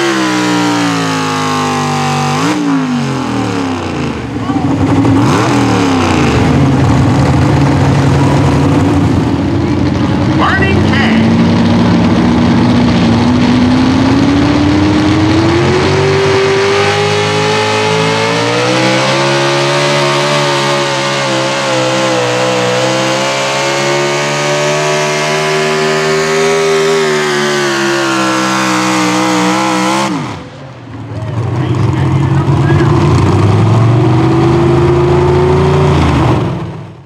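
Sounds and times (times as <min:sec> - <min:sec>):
truck engine at full throttle: 0:00.0 - 0:37.0.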